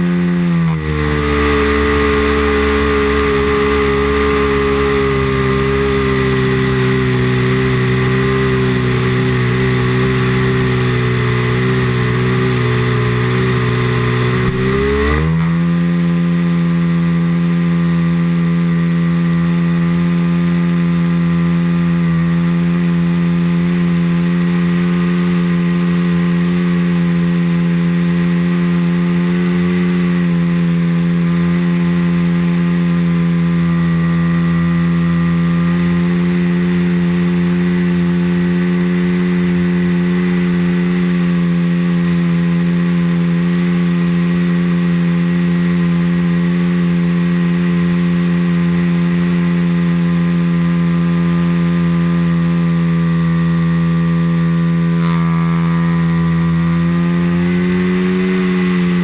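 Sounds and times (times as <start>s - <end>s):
model airplane engine drone: 0.0s - 59.0s.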